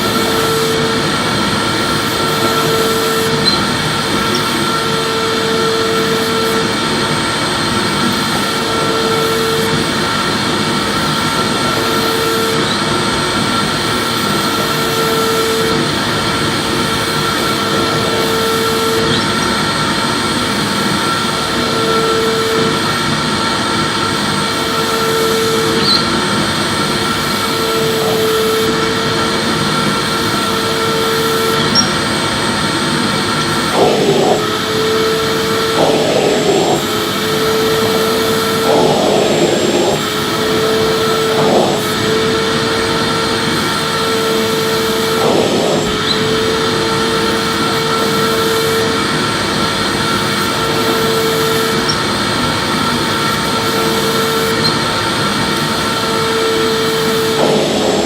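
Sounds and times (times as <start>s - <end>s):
vacuum cleaner whining: 0.0s - 58.0s
vacuum nozzle rushing over surface: 0.0s - 58.0s.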